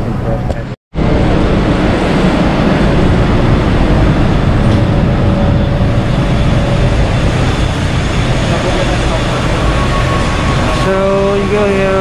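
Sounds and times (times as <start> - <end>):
vehicle engines and traffic rumble: 0.0 - 12.0
faint steady whine: 1.0 - 12.0.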